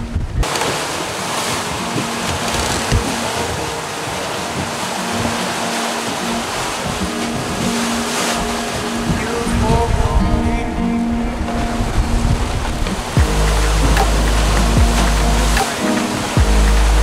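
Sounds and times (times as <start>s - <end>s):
sea water rushing along hulls: 0.0s - 17.0s.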